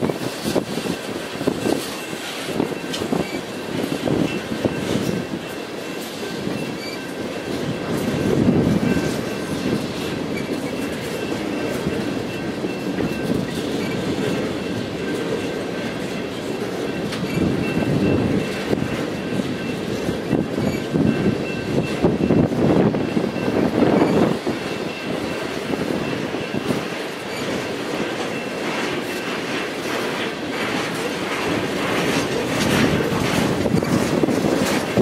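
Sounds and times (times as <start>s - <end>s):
crossing bell ringing: 0.0s - 35.0s
train wheels clattering over rail joints: 0.0s - 35.0s.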